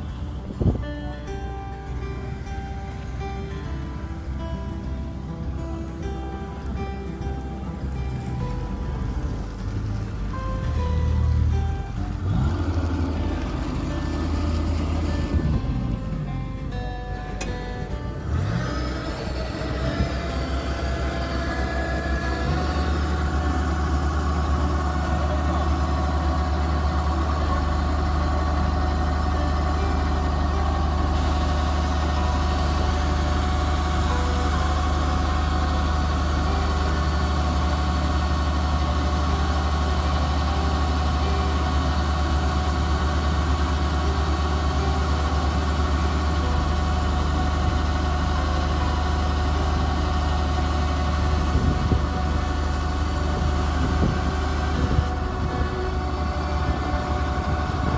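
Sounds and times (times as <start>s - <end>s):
combine harvester diesel hum: 0.0s - 57.9s
grain auger whining: 0.0s - 57.9s.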